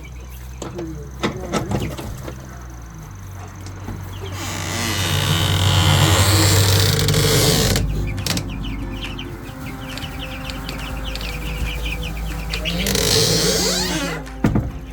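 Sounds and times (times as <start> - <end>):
chickens clucking: 0.0 - 14.9.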